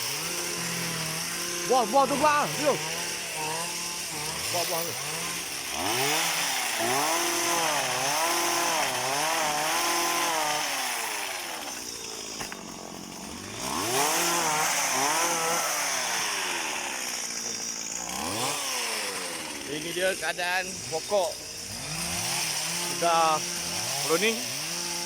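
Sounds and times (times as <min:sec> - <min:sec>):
power saw cutting fronds: 0:00.0 - 0:25.0.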